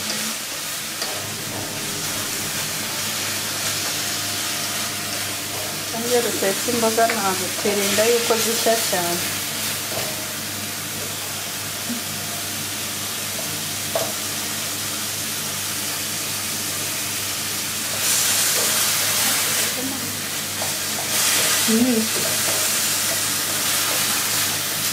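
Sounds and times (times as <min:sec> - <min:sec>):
greens sizzling in a wok: 0:00.0 - 0:24.9.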